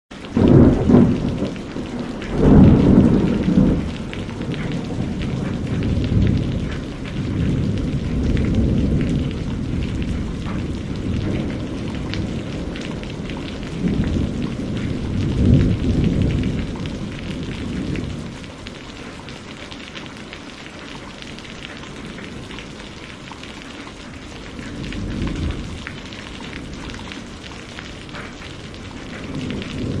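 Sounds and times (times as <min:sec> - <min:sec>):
heavy rain on window glass: 0:00.1 - 0:30.0
thunder rumbling: 0:00.3 - 0:19.5, 0:21.3 - 0:30.0.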